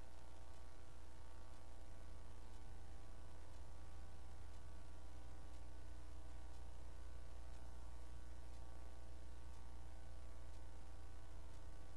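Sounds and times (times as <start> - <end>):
low hum with faint hiss: 0.0 - 11.9.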